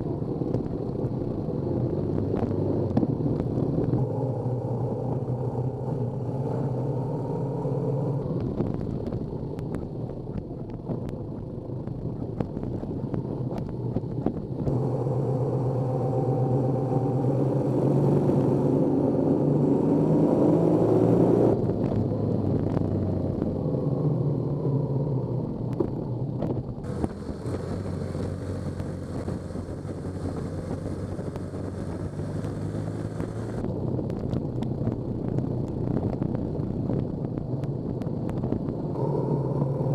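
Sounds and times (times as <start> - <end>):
motorcycle engine accelerating: 0.0 - 39.9
tyre road noise: 0.0 - 39.9
wind noise: 0.0 - 39.9.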